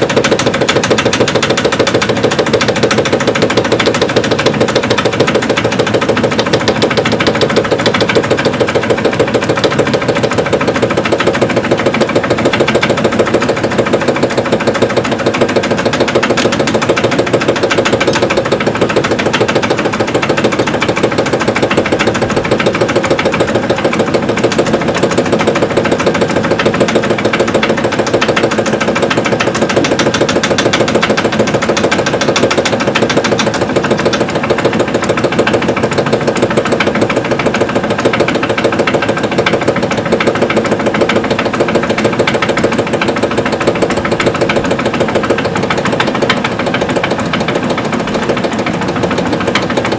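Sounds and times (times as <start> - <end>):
rapid steady knocking: 0.0 - 49.9
washing machine drum spinning: 0.0 - 49.9.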